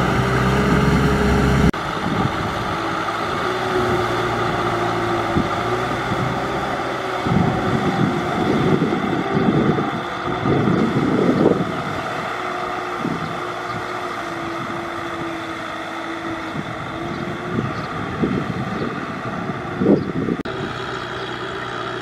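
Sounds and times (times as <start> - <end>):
wind buffeting microphone: 0.0 - 20.8
tractor diesel engine running: 0.0 - 22.0.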